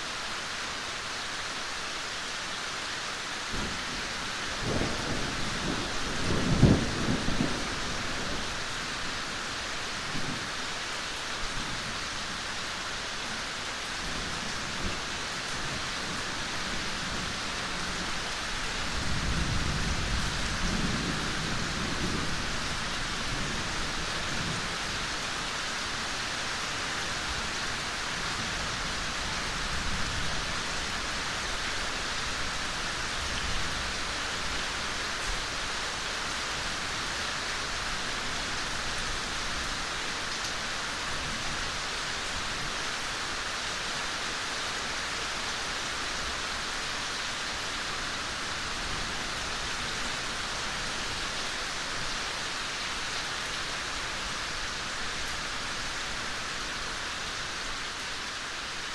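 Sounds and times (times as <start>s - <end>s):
gentle rain falling: 0.0s - 58.9s.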